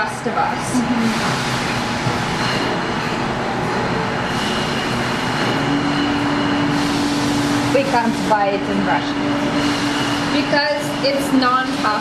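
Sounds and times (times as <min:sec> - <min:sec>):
bottling machinery running: 0:00.0 - 0:12.0.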